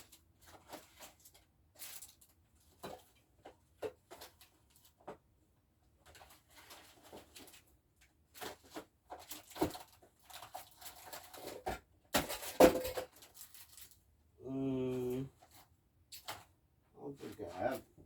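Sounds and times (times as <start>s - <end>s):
rustling and scraping belongings: 0.0s - 14.2s, 14.9s - 18.0s.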